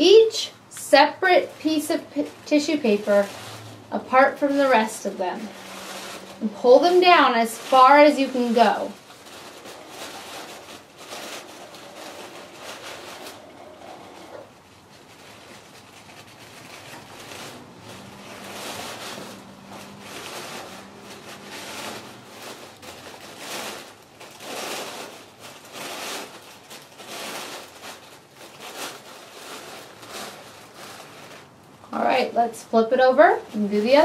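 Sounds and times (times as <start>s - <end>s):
tissue paper rustling: 0.0s - 34.0s.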